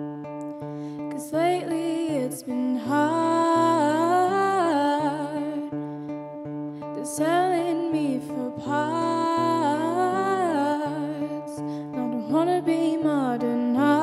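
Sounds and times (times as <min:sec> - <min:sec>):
acoustic guitar strumming: 0:00.0 - 0:14.0
woman singing: 0:00.4 - 0:14.0.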